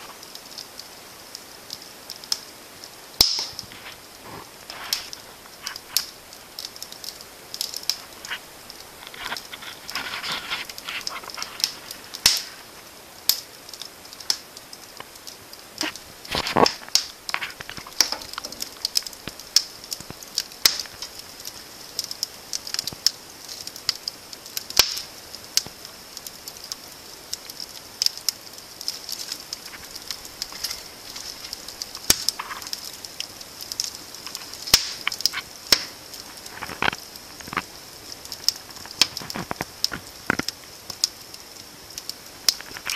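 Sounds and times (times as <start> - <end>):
fire hissing: 0.0 - 42.9
wood fire crackling and popping: 0.0 - 42.9.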